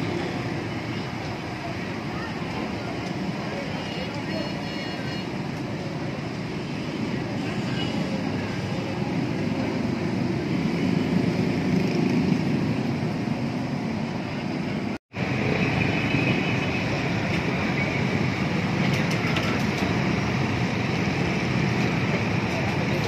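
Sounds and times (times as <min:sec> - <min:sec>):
road traffic din: 0:00.0 - 0:23.0
street bustle: 0:00.0 - 0:23.0.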